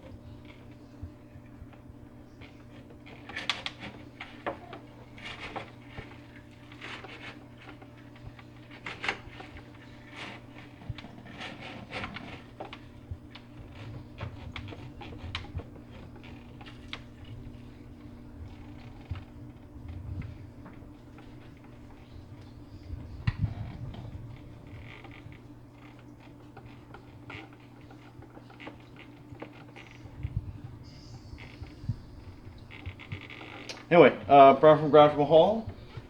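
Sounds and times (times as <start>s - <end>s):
aquarium vacuum pump humming: 0.0s - 36.0s.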